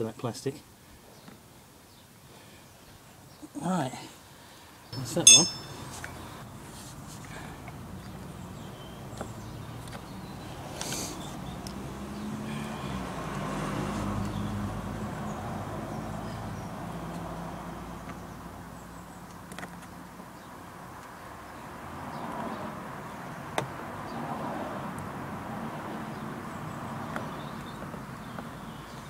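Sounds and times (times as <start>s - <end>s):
passing vehicle engine hum: 5.0s - 20.0s, 20.6s - 29.0s.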